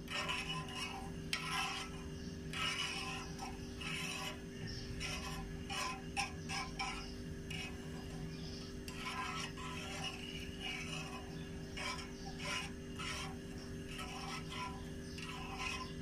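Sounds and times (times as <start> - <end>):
metal spoon scraping a frying pan: 0.0 - 16.0.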